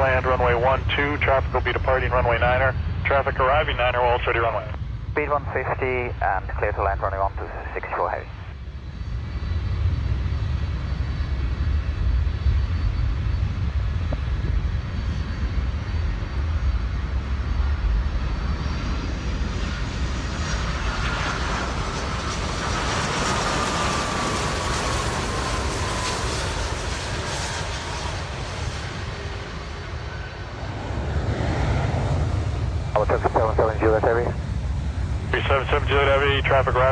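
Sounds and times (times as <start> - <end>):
jet airliner passing: 0.0 - 36.9.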